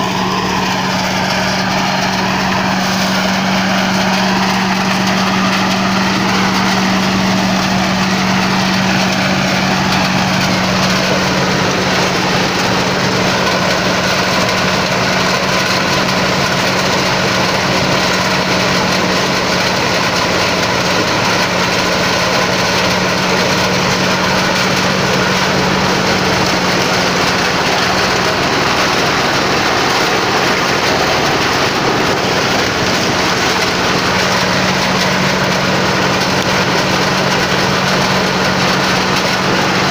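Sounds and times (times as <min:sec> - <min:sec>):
corn sheller engine humming: 0:00.0 - 0:39.9
threshing drum clatter: 0:00.0 - 0:39.9.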